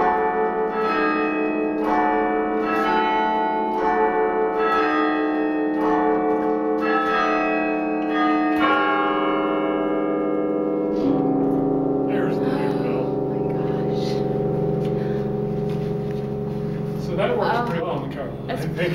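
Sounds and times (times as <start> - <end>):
carillon bell chords ringing: 0.0 - 18.9.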